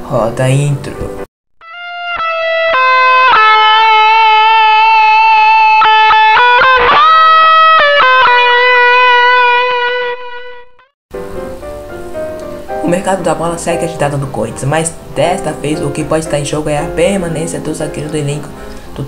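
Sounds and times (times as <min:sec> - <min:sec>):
instrumental intro music: 0:01.6 - 0:19.0.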